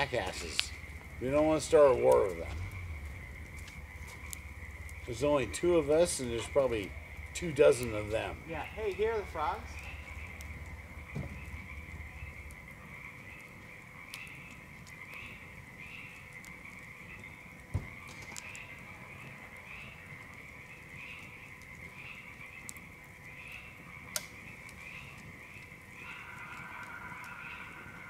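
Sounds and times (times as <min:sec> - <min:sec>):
campfire crackling pops: 0:00.0 - 0:28.0
frogs calling: 0:00.0 - 0:28.0.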